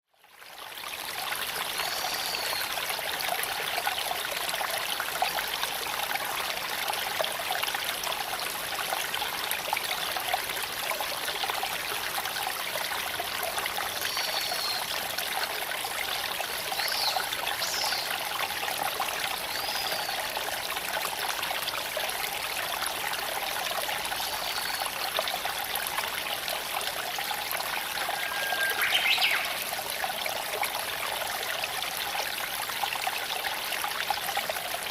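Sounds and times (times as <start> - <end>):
creek water running over stones: 0.2 - 34.9.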